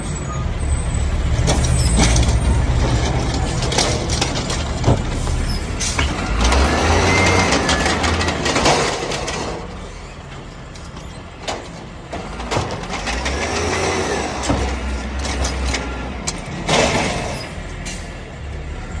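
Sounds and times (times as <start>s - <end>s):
diesel engine revving: 0.0s - 9.9s, 12.2s - 19.0s
sharp knocks and clatter: 1.4s - 9.7s, 10.3s - 18.1s.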